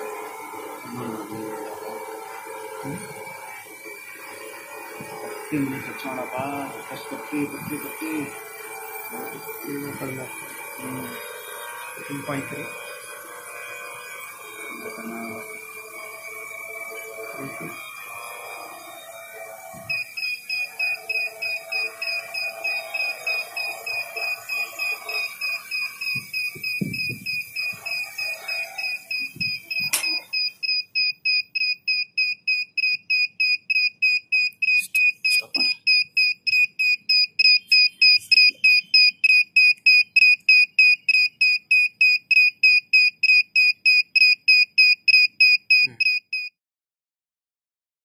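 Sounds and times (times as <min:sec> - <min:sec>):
rapid high-pitched warning beeps: 0:02.8 - 0:46.5.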